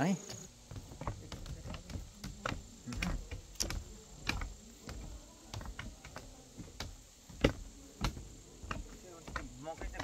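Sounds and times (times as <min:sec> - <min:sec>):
footsteps clicking and knocking: 0:00.2 - 0:10.0.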